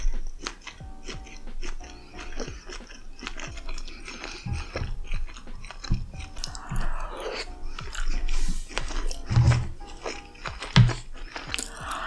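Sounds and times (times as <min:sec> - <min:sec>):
mouth clicks and smacks: 0:00.0 - 0:12.0
person chewing food: 0:00.0 - 0:12.0
soft background music: 0:00.0 - 0:12.0.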